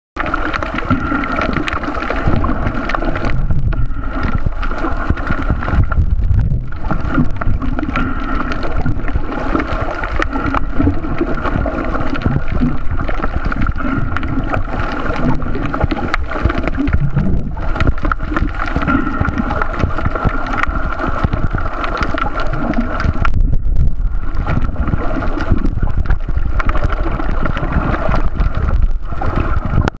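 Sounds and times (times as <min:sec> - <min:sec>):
muffled underwater rush: 0:00.2 - 0:30.0.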